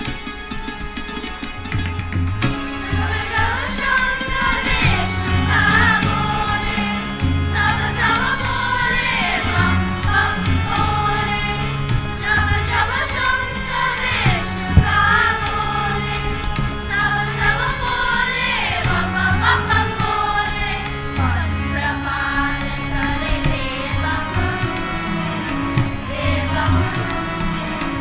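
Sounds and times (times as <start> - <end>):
low held instrumental accompaniment: 0.0 - 28.0
group of voices singing: 2.5 - 28.0.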